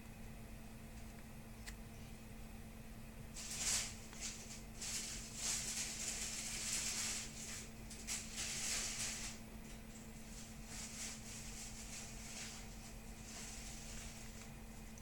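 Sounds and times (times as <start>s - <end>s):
exhaust fan hum: 0.0s - 15.0s.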